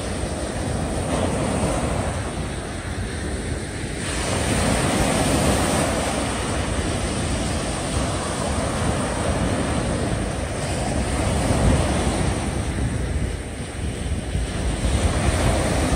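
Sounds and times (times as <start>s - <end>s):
sea wind and surf: 0.0s - 15.9s
wind buffeting microphone: 0.0s - 15.9s.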